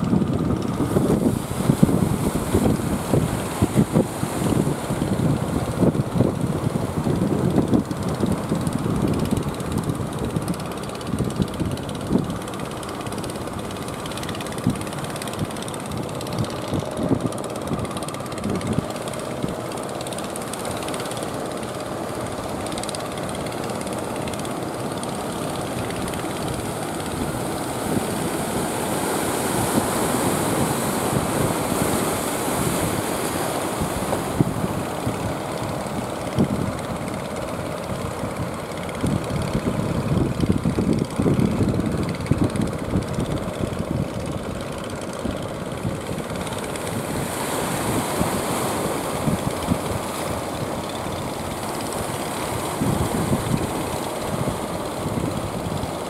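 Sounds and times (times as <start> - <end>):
boat engine rattling rumble: 0.0 - 56.0
water noise: 0.0 - 56.0
wind: 0.0 - 56.0.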